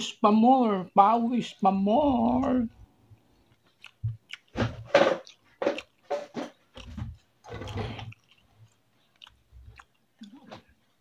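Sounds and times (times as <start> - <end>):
wet chewing: 2.1 - 11.0.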